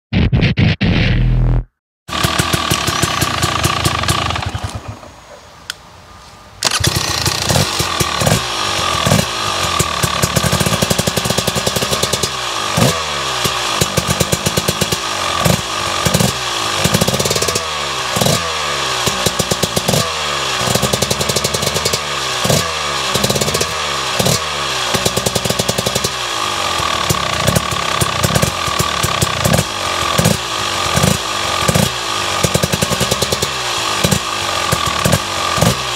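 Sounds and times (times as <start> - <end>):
two-stroke engine revving: 2.1 - 5.0, 6.6 - 35.9.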